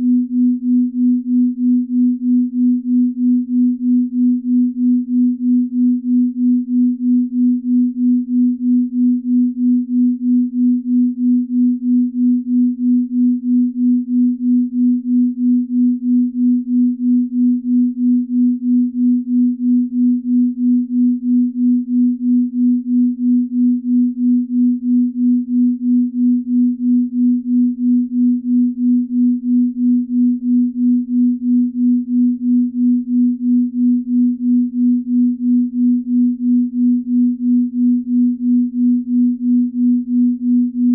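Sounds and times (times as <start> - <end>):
pulsing low sine tone: 0.0 - 40.9.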